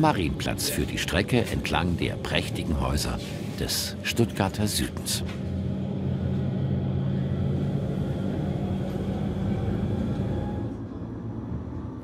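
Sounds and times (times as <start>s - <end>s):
railcar rumbling and humming: 0.0s - 12.0s.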